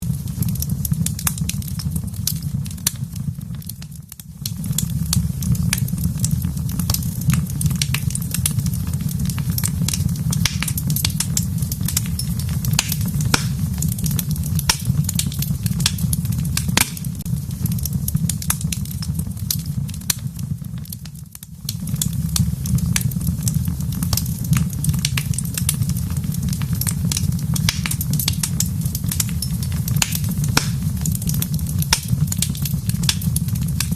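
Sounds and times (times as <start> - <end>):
fire crackles and pops: 0.0 - 33.9
low rumble of flames: 0.0 - 33.9.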